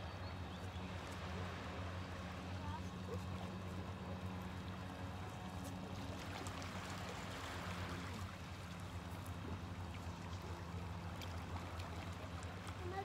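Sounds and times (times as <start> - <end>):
waves lapping around rocks: 0.1 - 13.0
trickling water: 2.0 - 13.0.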